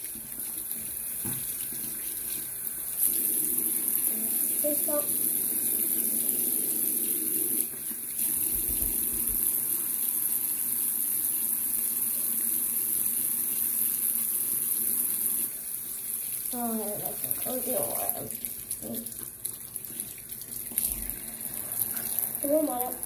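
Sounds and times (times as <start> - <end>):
tap water running into sink: 0.0 - 23.0.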